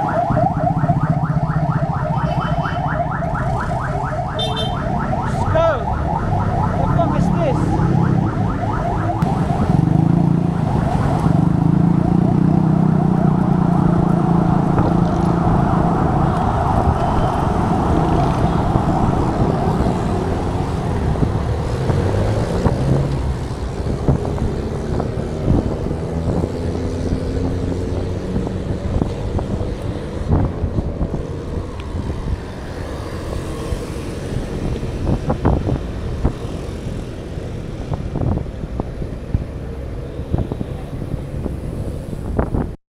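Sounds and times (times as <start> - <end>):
motorcycle and car engines: 0.0 - 42.8
traffic rushing: 0.0 - 42.8.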